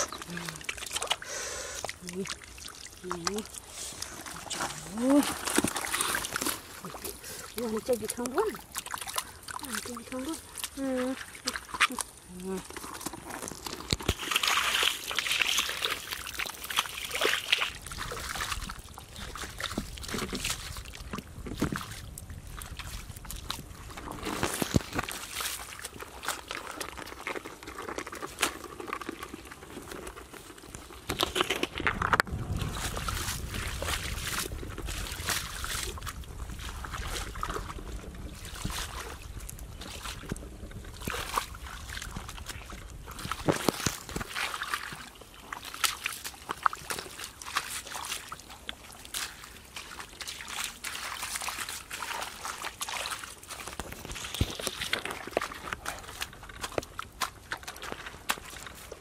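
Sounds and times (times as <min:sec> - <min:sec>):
boots splashing through muddy water: 0:00.0 - 0:59.0.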